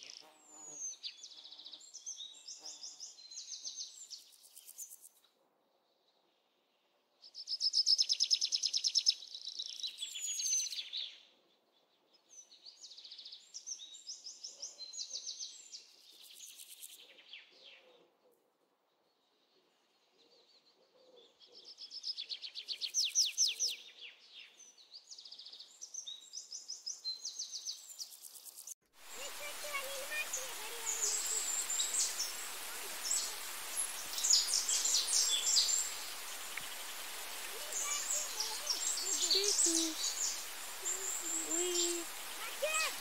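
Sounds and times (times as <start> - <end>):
songbird chirping and trilling: 0.0 - 5.1, 7.2 - 17.9, 18.9 - 43.0.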